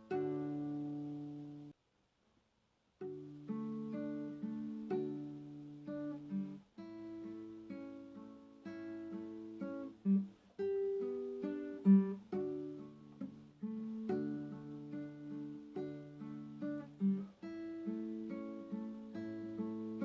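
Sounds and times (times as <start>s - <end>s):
acoustic guitar playing: 0.0s - 1.8s, 3.0s - 20.0s.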